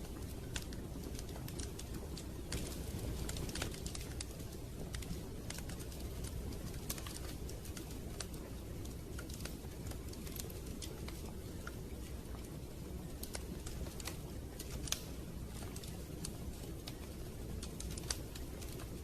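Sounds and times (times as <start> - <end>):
low rushing fire sound: 0.0 - 19.0
wood fire crackling and popping: 0.0 - 19.0.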